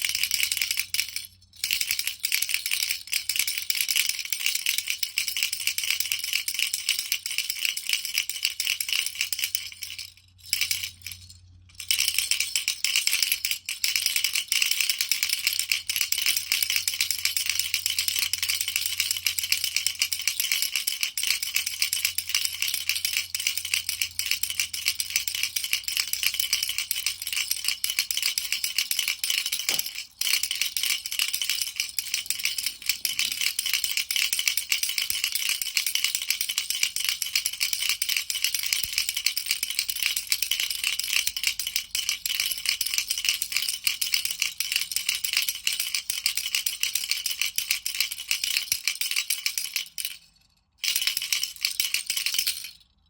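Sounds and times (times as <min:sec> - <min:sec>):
baby rattle shaking: 0:00.0 - 0:53.0.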